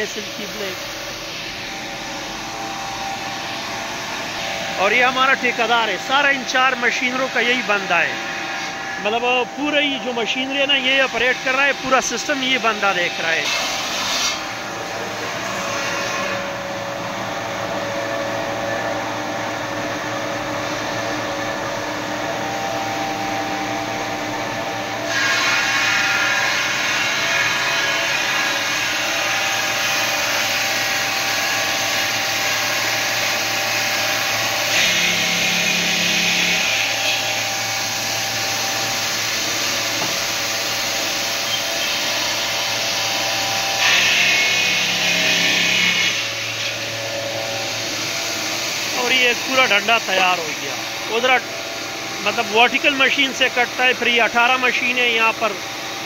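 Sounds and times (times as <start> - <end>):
stone saw cutting marble: 0.0 - 56.0.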